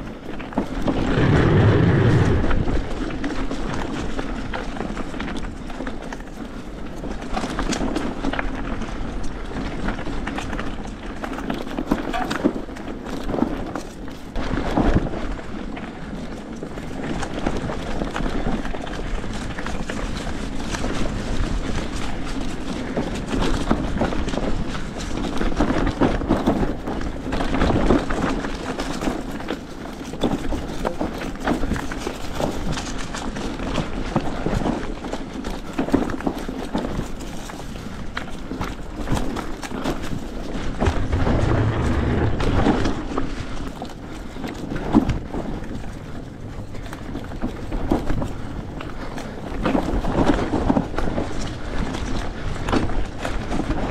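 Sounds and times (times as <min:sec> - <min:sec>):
bike knocking and rattling: 0:00.0 - 0:53.9
bike tyres on dirt trail: 0:00.0 - 0:53.9.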